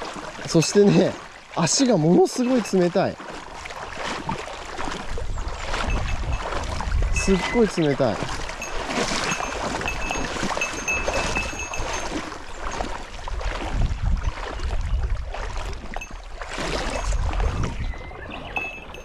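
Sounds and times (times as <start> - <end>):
river water rushing and splashing: 0.0 - 19.0.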